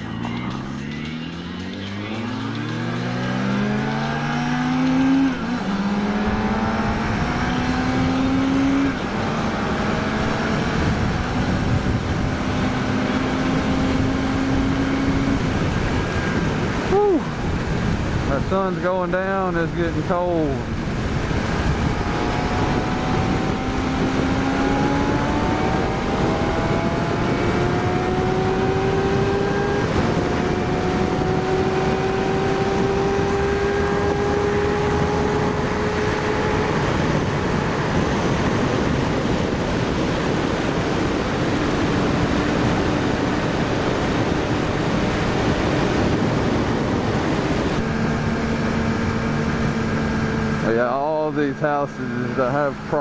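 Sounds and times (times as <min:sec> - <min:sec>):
motorcycle engine at speed: 0:00.0 - 0:53.0
wind rush on microphone: 0:03.0 - 0:53.0.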